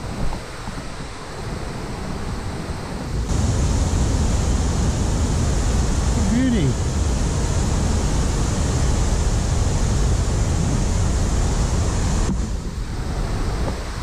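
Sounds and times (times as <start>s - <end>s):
weir water rushing: 0.0s - 14.0s
wind buffeting microphone: 0.0s - 14.0s.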